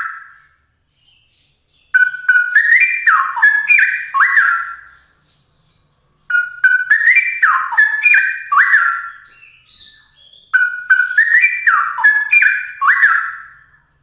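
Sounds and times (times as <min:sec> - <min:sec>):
bird singing whistled notes: 0:00.0 - 0:14.0.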